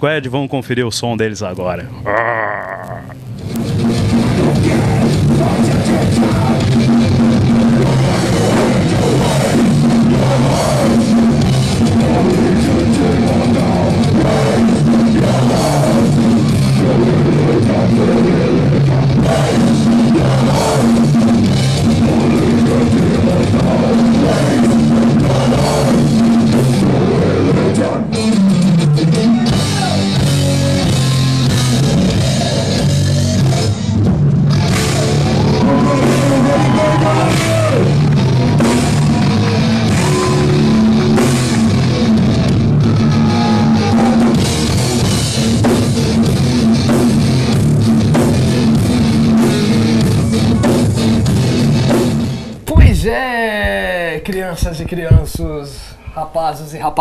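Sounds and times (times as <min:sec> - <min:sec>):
heavy metal band playing live: 0:03.6 - 0:52.5.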